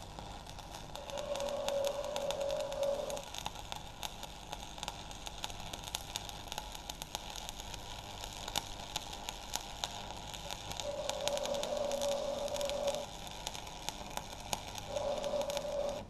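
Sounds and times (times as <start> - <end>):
constant hiss: 0.0 - 16.0
welding arc crackling: 0.0 - 16.0.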